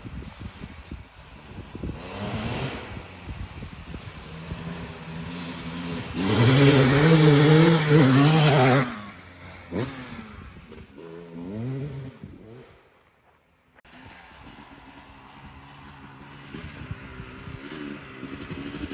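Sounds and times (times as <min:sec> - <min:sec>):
dirt bike engine revving: 0:00.3 - 0:12.9, 0:14.3 - 0:18.9.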